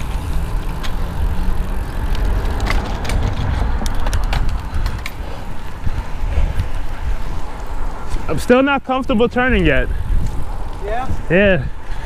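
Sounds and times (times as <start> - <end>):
bicycle clicks and rattles: 0.0 - 12.0
wind rumbling on microphone: 0.0 - 12.0.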